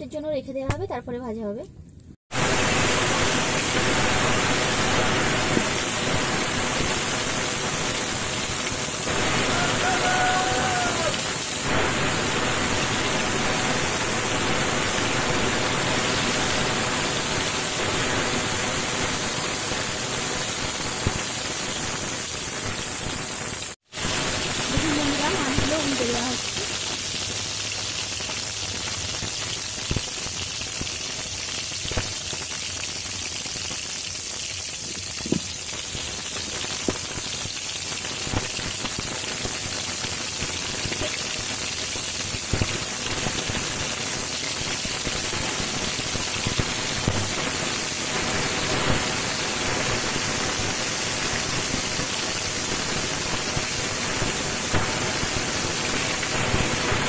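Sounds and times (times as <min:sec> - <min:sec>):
fish sizzling in hot oil: 0:02.3 - 0:57.0.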